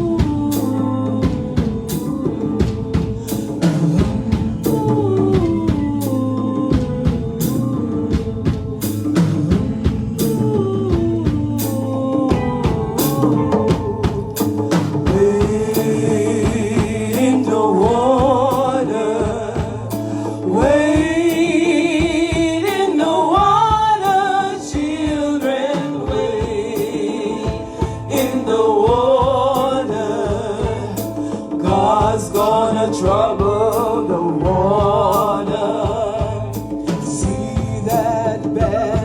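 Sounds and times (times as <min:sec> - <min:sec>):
drum kit: 0:00.0 - 0:39.0
person singing with vibrato: 0:00.0 - 0:39.0.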